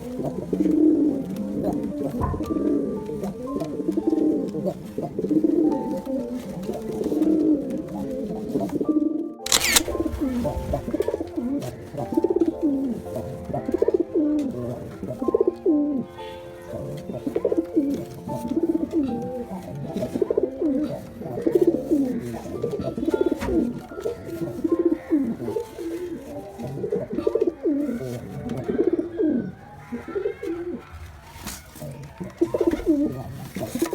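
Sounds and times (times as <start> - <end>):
pigeons cooing: 0.0 - 33.9.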